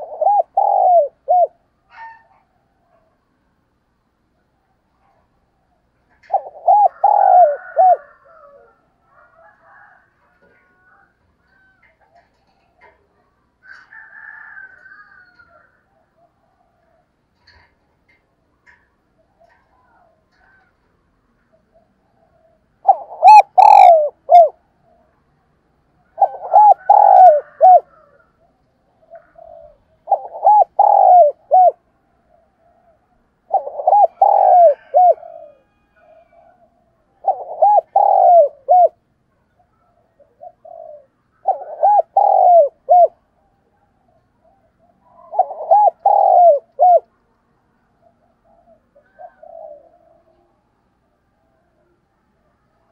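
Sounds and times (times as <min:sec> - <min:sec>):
dove cooing: 0:00.0 - 0:03.2, 0:05.0 - 0:25.4, 0:26.0 - 0:47.2, 0:47.9 - 0:52.9.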